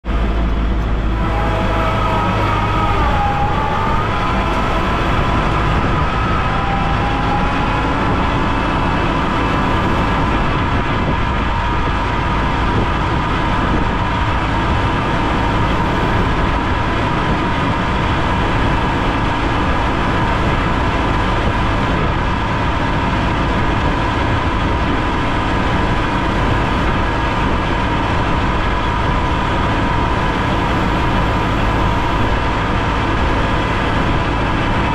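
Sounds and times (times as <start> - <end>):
high whine: 0.0 - 34.9
tractor engine running: 0.0 - 34.9.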